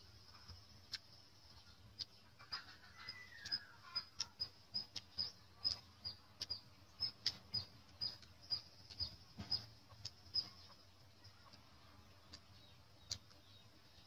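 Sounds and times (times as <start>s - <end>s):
wet chewing and lip smacking: 0.4s - 9.2s, 9.9s - 10.6s, 11.4s - 13.6s.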